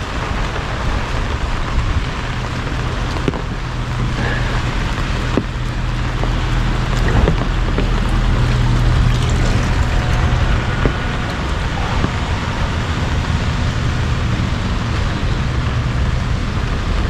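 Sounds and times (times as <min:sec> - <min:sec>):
heavy rain pouring: 0:00.0 - 0:17.0
low rumble of road traffic: 0:00.0 - 0:17.0.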